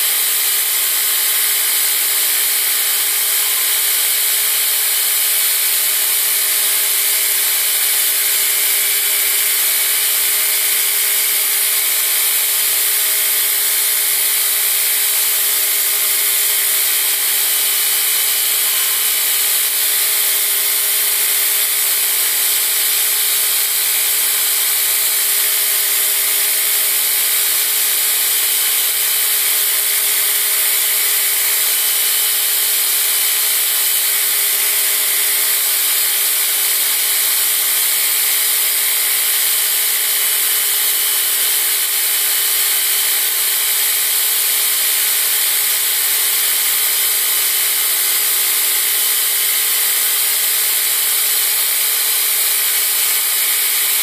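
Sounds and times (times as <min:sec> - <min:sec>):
belt grinder grinding steel: 0:00.0 - 0:54.0.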